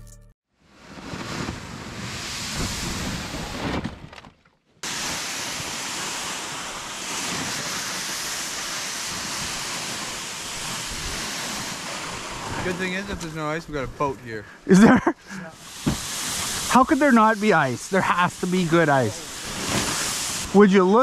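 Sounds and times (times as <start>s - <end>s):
plastic sled scraping over snow: 0.7s - 14.4s, 15.6s - 21.0s.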